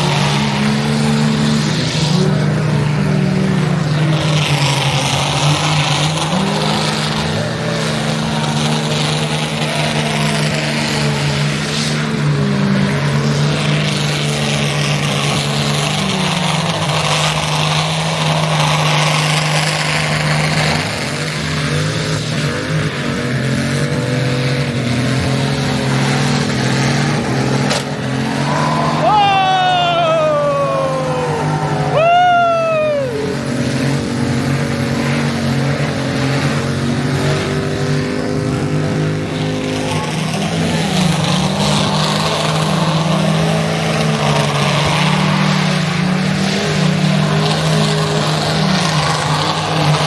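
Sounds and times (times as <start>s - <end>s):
car engine at high revs: 0.0s - 50.0s.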